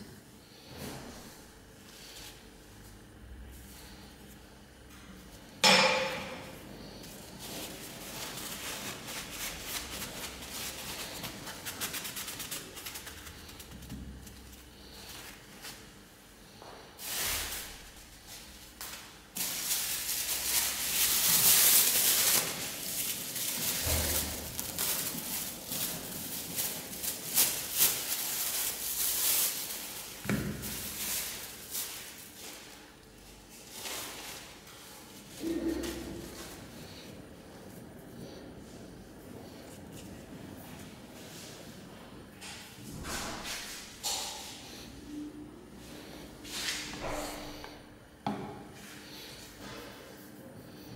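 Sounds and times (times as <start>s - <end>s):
rustling and scraping: 0.5s - 44.9s, 45.8s - 47.8s.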